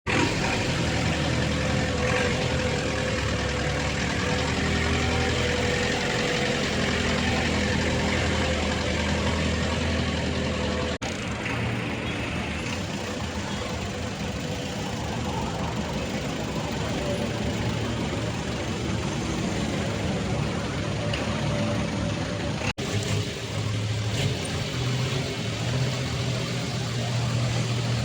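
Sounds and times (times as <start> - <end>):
truck engine idling: 0.1 - 28.0.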